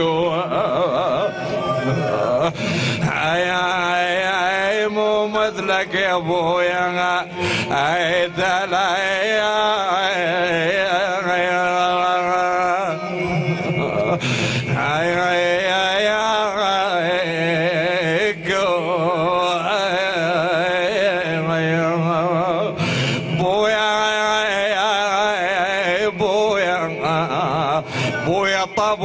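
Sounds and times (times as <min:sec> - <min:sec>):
man chanting a lament: 0:00.0 - 0:29.0.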